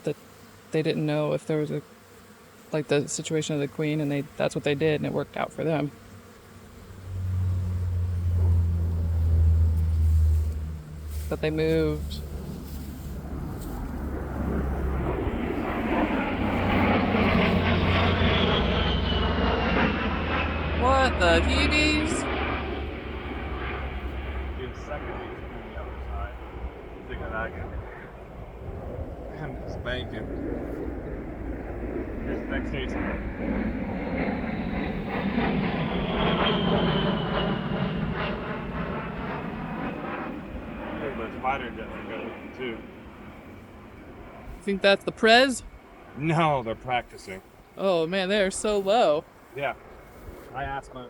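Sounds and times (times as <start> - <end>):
low-flying military aircraft: 0.0 - 51.0
jet passing overhead: 4.0 - 51.0
high jet whine: 6.8 - 51.0.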